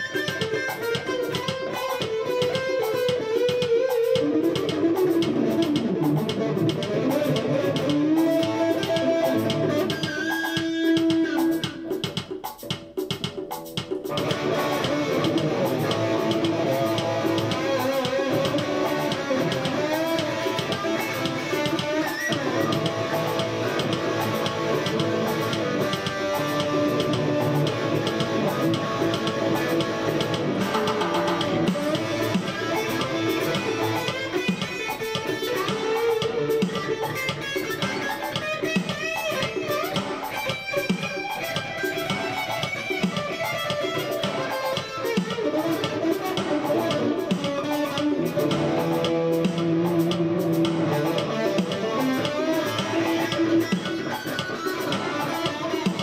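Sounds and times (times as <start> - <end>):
guitar music: 0.0 - 56.0
steady drum beat: 0.0 - 56.0.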